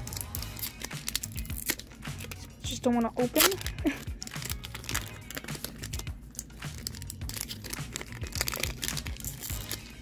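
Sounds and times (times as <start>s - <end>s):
shiny wrapper crinkling: 0.0s - 10.0s.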